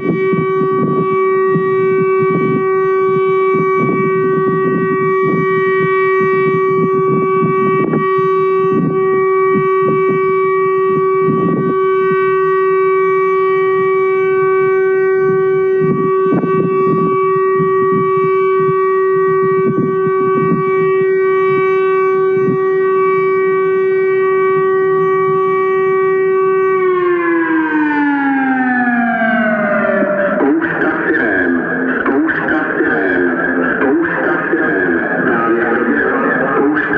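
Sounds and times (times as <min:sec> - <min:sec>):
outdoor warning siren: 0:00.0 - 0:36.9.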